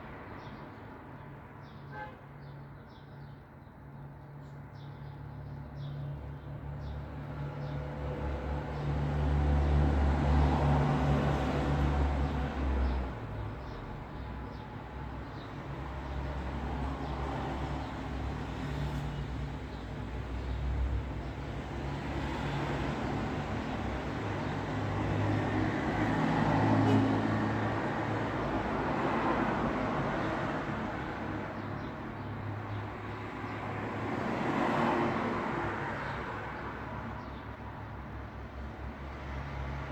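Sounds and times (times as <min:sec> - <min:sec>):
road traffic rumble: 0:06.4 - 0:39.9.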